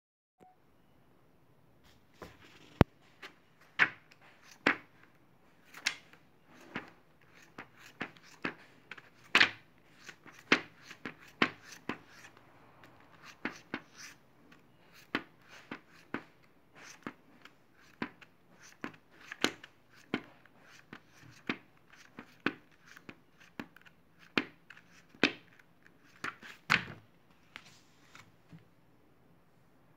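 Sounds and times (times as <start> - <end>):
book pages turning: 2.2 - 28.4.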